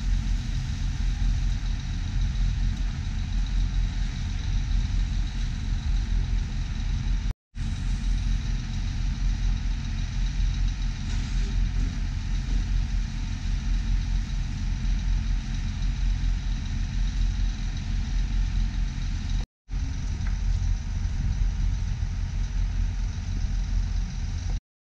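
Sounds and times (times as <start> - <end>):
engine idling: 0.0 - 24.6.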